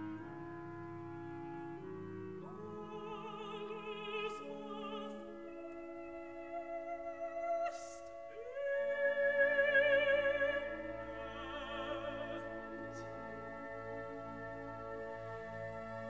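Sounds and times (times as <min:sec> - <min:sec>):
operatic contralto singing: 0:02.4 - 0:16.0.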